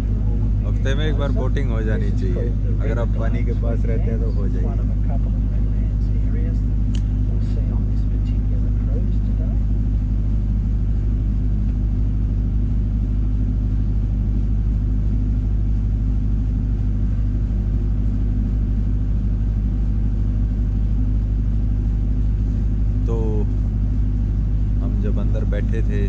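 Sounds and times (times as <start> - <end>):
boat engine rumble: 0.0 - 26.0.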